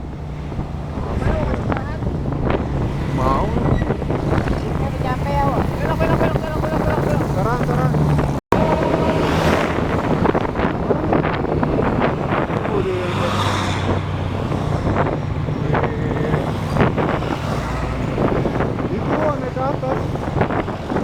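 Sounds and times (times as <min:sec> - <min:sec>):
train rumbling on rails: 0:00.0 - 0:21.0
wind on microphone: 0:00.0 - 0:21.0.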